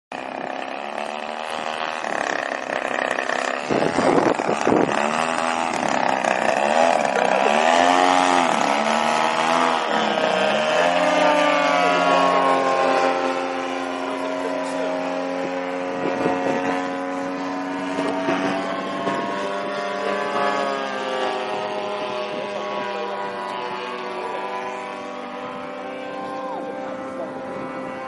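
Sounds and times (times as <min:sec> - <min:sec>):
model plane engine and propeller: 0:00.1 - 0:28.0.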